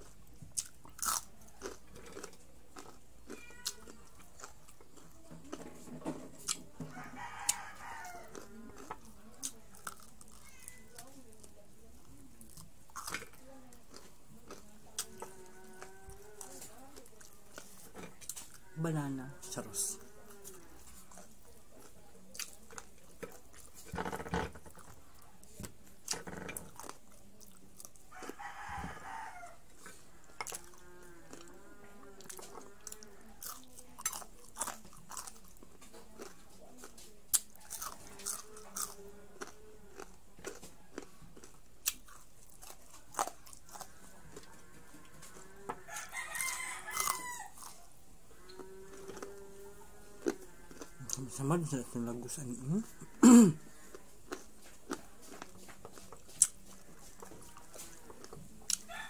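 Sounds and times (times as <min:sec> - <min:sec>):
crunching and chewing crispy food: 0:00.0 - 0:59.0.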